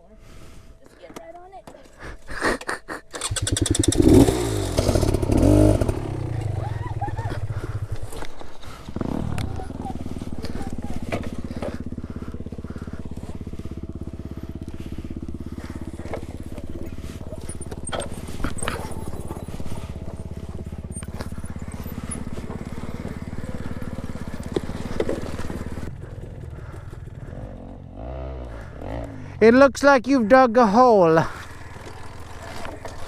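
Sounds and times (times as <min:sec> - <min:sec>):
dirt bike engine running: 0:02.6 - 0:33.0.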